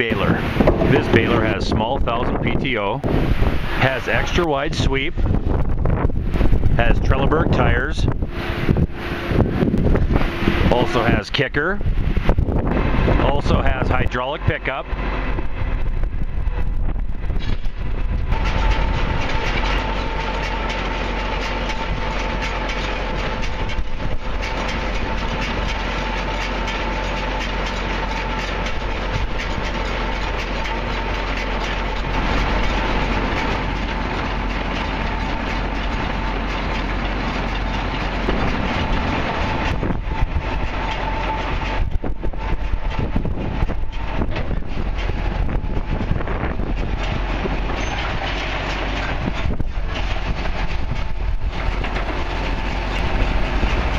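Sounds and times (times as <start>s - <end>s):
round baler clattering and whining: 0.0s - 53.9s.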